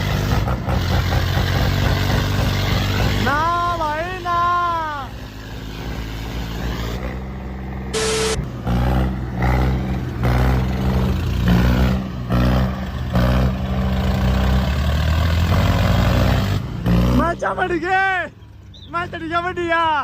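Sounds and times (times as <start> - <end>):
tractor diesel engines under load: 0.0 - 20.0.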